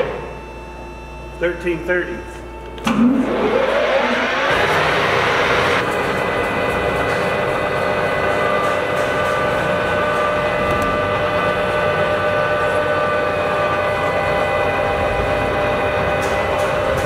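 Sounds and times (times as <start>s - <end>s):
lathe gear whine: 0.0s - 17.0s.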